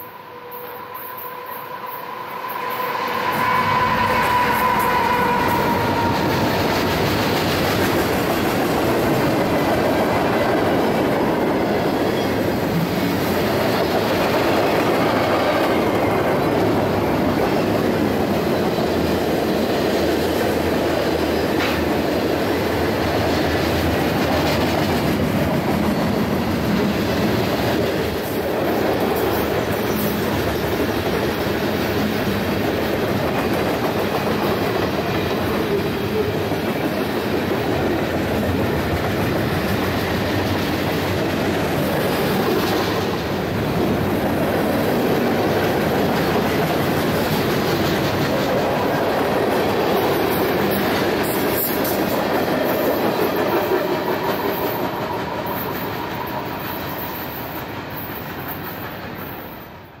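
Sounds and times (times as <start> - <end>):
freight train wheels clattering: 2.7 - 59.8.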